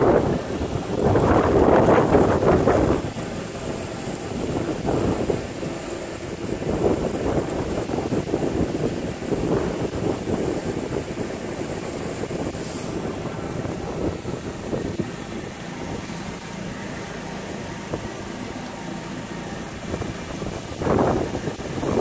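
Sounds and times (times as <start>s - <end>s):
motorboat engine rumble: 0.0s - 22.0s
rushing water: 0.0s - 22.0s
wind: 0.0s - 22.0s.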